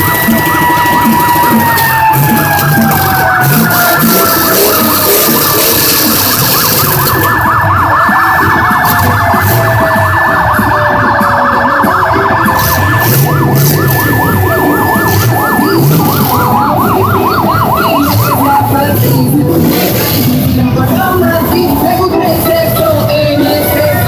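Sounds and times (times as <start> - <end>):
crowd noise: 0.0 - 24.0
siren yelp warbling: 0.0 - 24.0
slow falling siren wails: 0.0 - 24.0
steady high siren tone: 0.0 - 24.0.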